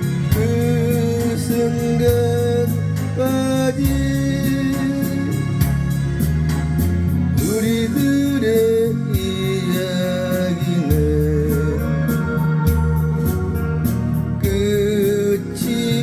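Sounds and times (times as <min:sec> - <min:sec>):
slow song with guitar: 0:00.0 - 0:16.0.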